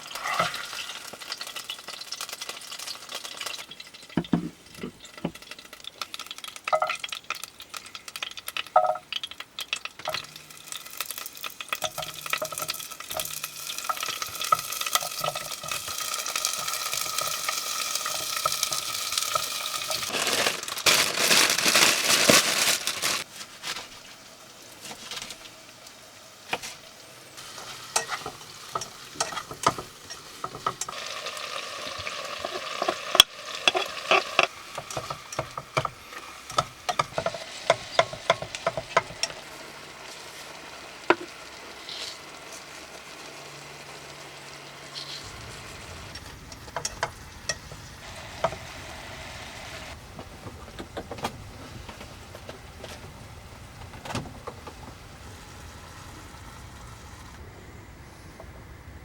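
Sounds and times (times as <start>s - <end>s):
food sizzling in a frying pan: 0.0s - 50.0s, 54.4s - 57.4s.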